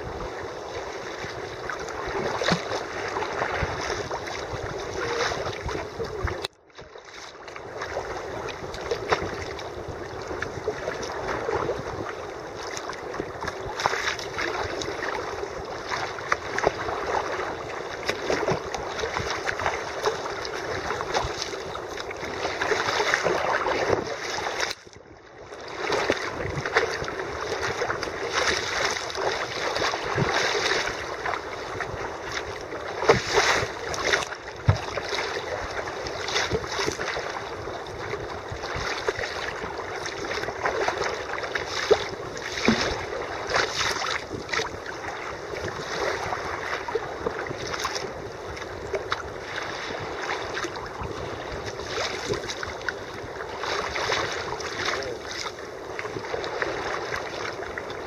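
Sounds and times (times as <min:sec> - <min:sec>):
water splashing against kayak hull: 0:00.0 - 0:58.0.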